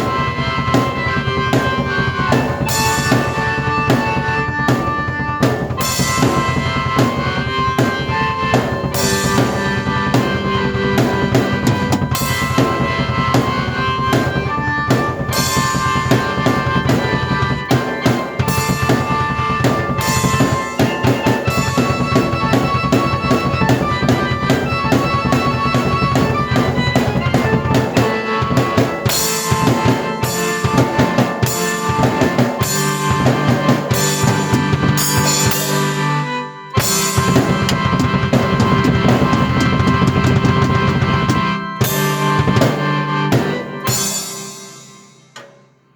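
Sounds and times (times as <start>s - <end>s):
drum kit playing: 0.0s - 45.9s
sustained keyboard notes: 0.0s - 45.9s.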